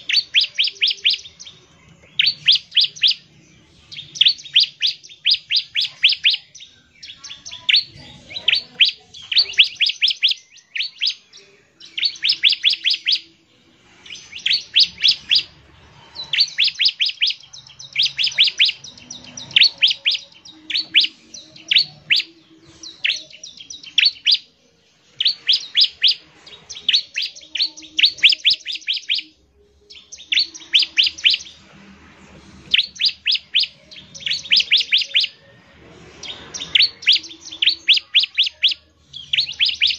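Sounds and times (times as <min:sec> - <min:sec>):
bird singing sharp high notes: 0:00.0 - 0:31.7, 0:32.6 - 0:39.9.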